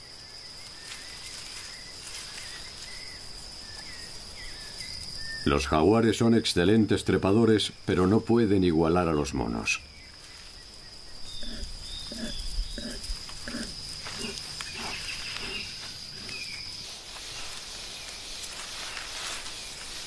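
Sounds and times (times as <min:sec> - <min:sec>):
high insect whine: 0:00.0 - 0:20.0.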